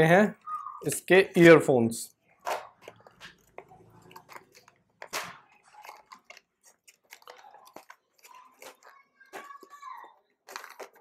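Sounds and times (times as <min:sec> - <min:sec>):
plastic packaging crackling: 0:00.0 - 0:11.0.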